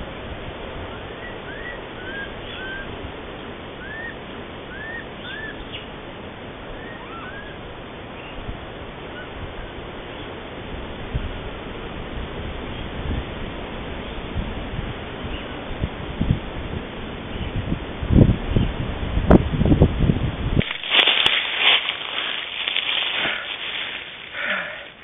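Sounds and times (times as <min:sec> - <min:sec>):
steady background hiss: 0:00.0 - 0:18.2, 0:19.8 - 0:25.0.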